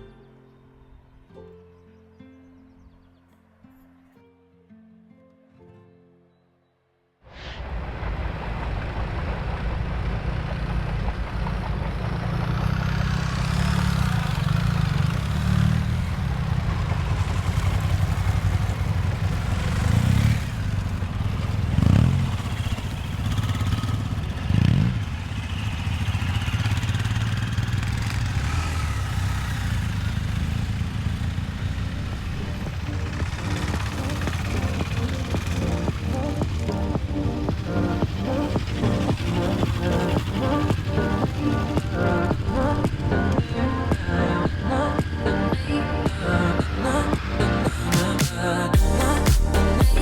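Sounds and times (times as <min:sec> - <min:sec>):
motorcycle engine running: 0:08.1 - 0:50.0.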